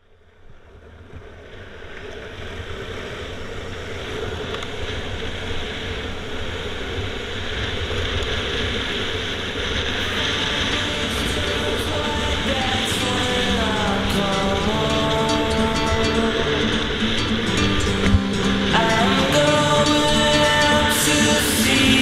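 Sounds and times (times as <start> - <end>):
longboard wheels rolling on asphalt: 0.4 - 22.0
wind rushing over microphone: 0.4 - 22.0.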